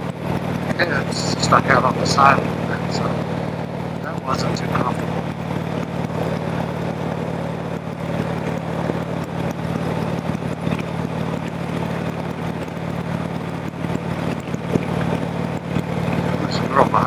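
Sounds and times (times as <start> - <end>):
motorcycle engine cruising: 0.0 - 17.0
road noise: 0.0 - 17.0.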